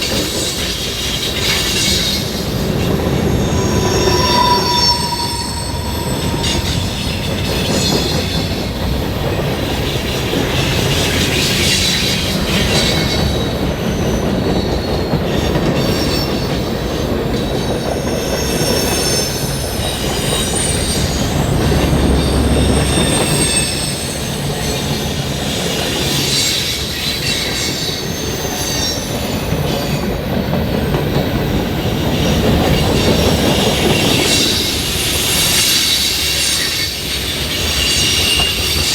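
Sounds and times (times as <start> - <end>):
railroad cars rumbling: 0.0 - 38.9
wheels squealing on rail: 0.0 - 38.9.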